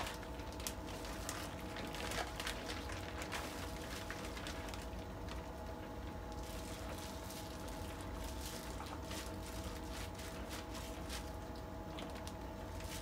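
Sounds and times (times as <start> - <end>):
faint steady hum: 0.0 - 13.0
wet squishing and crinkling: 0.0 - 13.0.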